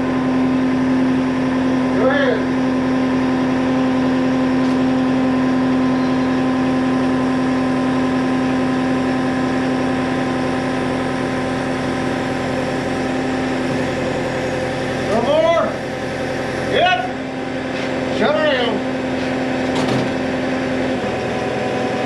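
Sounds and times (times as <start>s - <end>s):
skid steer engine droning: 0.0s - 22.0s.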